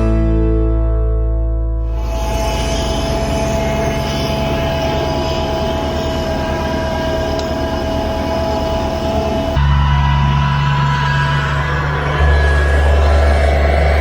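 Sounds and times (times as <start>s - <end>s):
snowblower whine: 1.9s - 14.0s
tractor diesel engine running: 1.9s - 14.0s.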